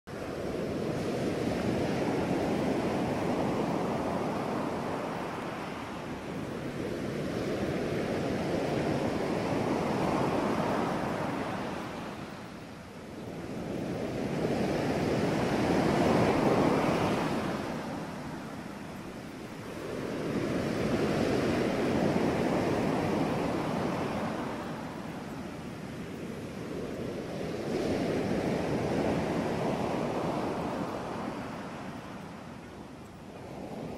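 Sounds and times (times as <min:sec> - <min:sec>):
ocean waves washing on shore: 0:00.1 - 0:33.9.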